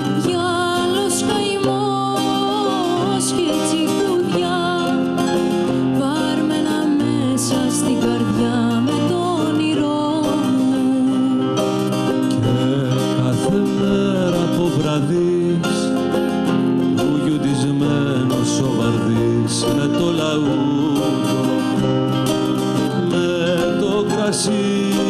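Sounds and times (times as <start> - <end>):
band of plucked string instruments: 0.0 - 25.0.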